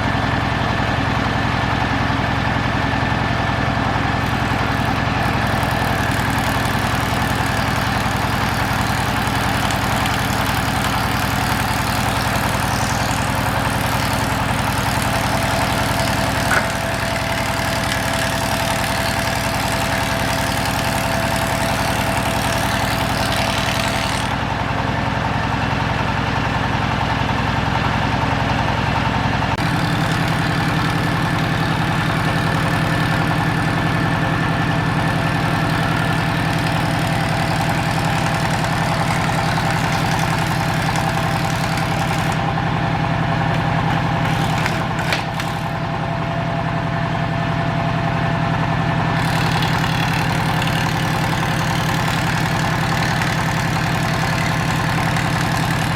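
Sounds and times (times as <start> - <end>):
woodworking machine motor humming: 0.0 - 55.9.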